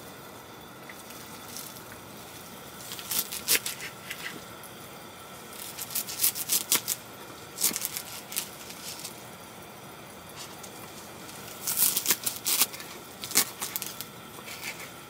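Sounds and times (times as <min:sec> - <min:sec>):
chives rustling: 0:00.9 - 0:04.5, 0:05.4 - 0:09.2, 0:10.3 - 0:15.0.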